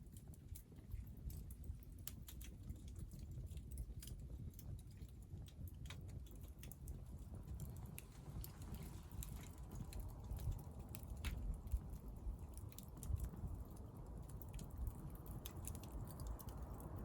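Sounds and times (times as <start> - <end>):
firewood crackling and popping: 0.0 - 17.0
low fire rumble: 0.0 - 17.0.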